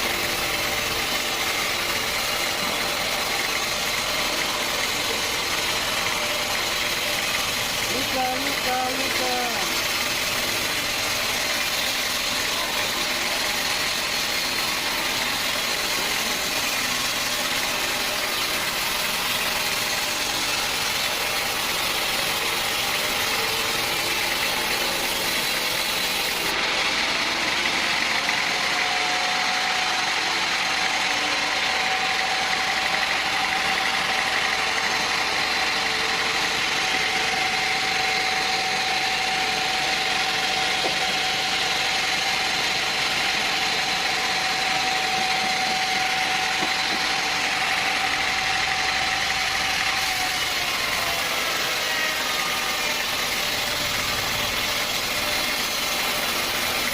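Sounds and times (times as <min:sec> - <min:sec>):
sawmill machinery motor drone: 0:00.0 - 0:56.9
thin machine whine: 0:00.0 - 0:56.9.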